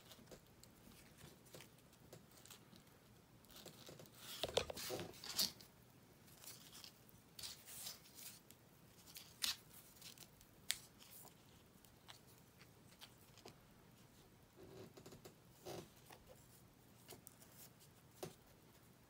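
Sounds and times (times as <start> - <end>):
fabric ribbon rustling and scraping: 0.0 - 14.2, 15.5 - 18.9.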